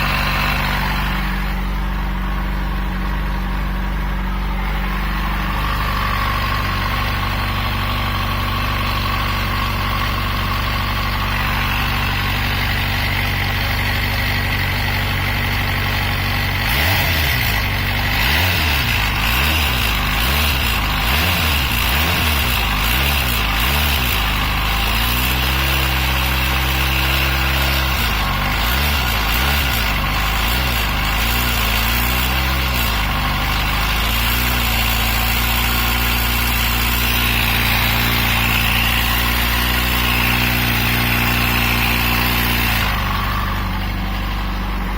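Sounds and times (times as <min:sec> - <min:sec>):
motorcycle engine knocking: 0:00.0 - 0:44.9.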